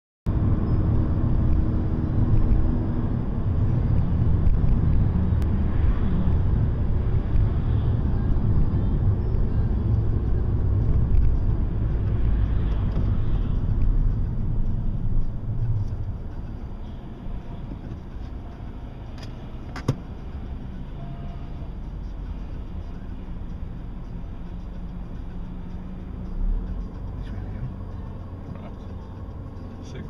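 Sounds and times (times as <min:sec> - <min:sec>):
car engine and tyre rumble: 0:00.3 - 0:30.0.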